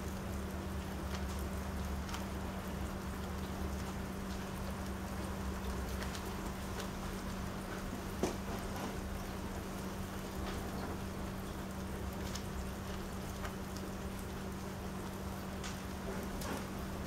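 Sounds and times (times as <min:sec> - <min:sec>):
drops ticking into puddles: 0:00.0 - 0:17.0
rain on wooden deck: 0:00.0 - 0:17.0.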